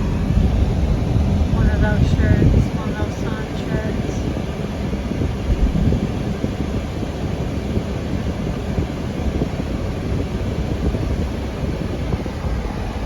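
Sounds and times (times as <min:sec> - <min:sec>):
car engine and road noise: 0:00.0 - 0:13.0
wind rumbling on microphone: 0:00.0 - 0:13.0.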